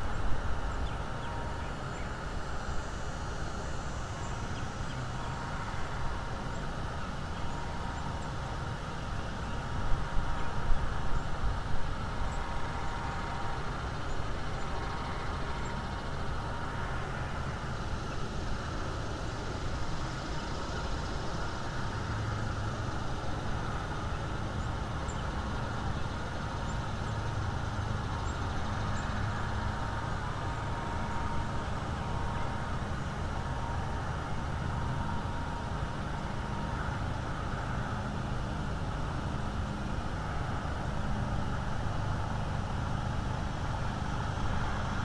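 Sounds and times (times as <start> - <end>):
low outdoor rumble: 0.0 - 45.0.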